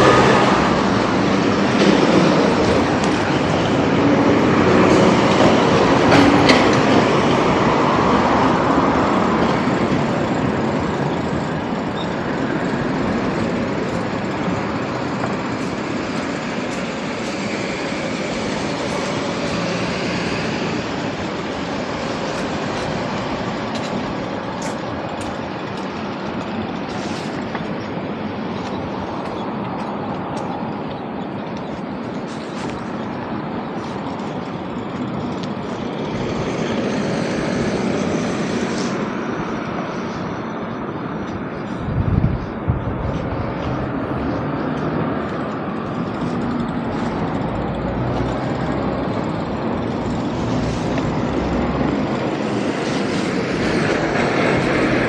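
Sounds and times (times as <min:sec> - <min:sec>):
train rumbling by: 0:00.0 - 0:55.0.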